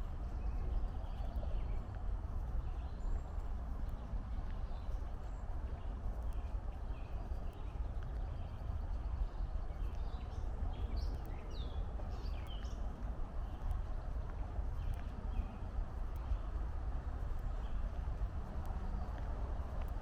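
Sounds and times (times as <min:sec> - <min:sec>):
small birds chirping: 0:00.0 - 0:18.3
footsteps on a trail: 0:00.0 - 0:20.0.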